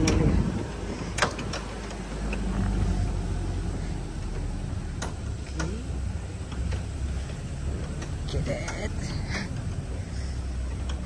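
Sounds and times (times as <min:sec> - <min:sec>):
truck engine hum: 0:00.0 - 0:11.0
tyre and road noise: 0:00.0 - 0:11.0.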